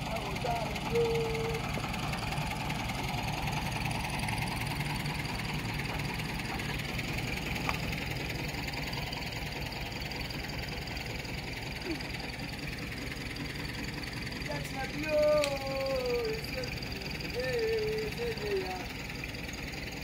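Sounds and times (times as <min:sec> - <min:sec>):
sawmill machinery drone: 0:00.0 - 0:20.0.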